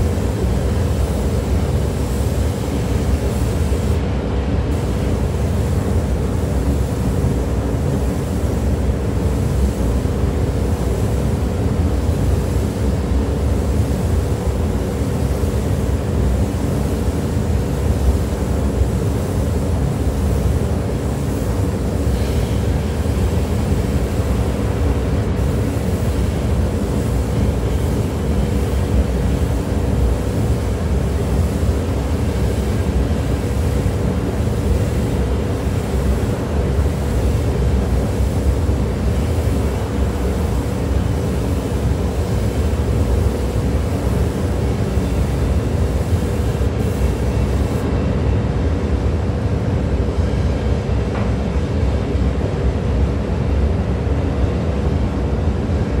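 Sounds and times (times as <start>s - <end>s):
spray gun air hiss: 0.0s - 48.0s
ventilation rumble and hum: 0.0s - 56.0s.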